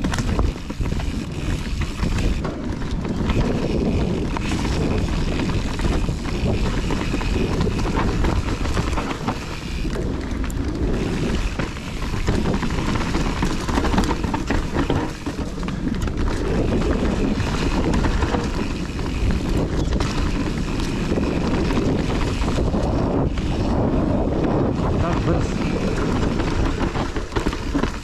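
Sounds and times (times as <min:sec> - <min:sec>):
bike rattling over rough ground: 0:00.0 - 0:28.0
bike tyres on trail: 0:00.0 - 0:28.0
wind buffeting microphone: 0:00.0 - 0:28.0.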